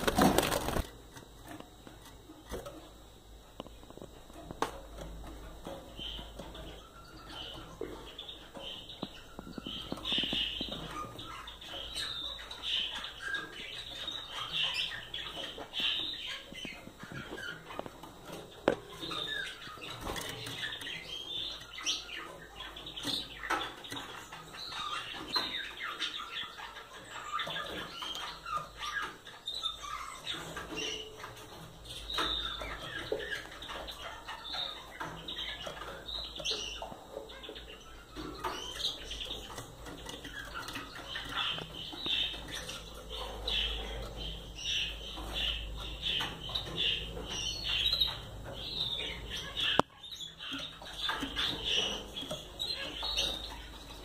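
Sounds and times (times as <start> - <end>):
finches chirping: 0.0 - 54.0.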